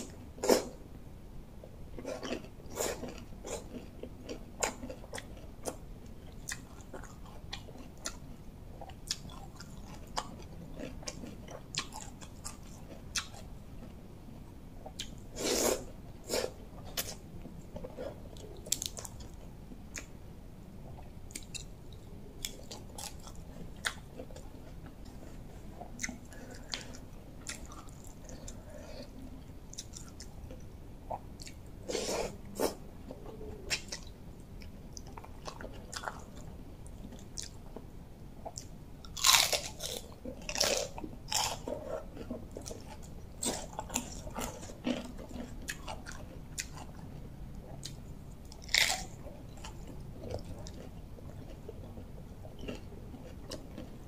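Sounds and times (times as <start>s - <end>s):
person chewing and crunching: 2.0s - 13.9s, 14.8s - 20.1s, 20.8s - 37.8s, 38.4s - 54.0s.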